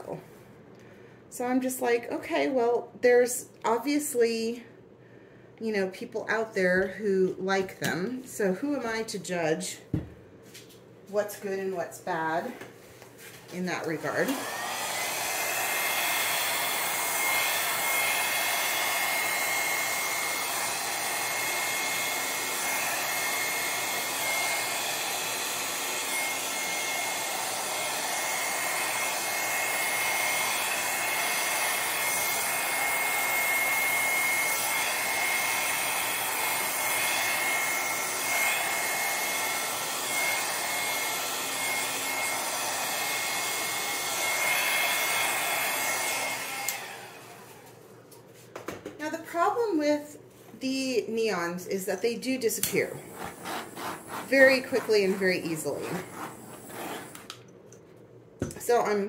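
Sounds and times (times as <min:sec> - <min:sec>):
hair dryer blowing: 0:05.7 - 0:10.1, 0:11.1 - 0:12.6, 0:13.5 - 0:47.9, 0:49.3 - 0:57.5, 0:58.4 - 0:59.0.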